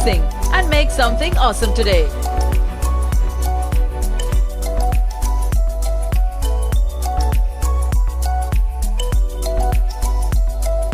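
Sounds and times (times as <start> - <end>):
music with quick beat and bass: 0.0 - 10.9.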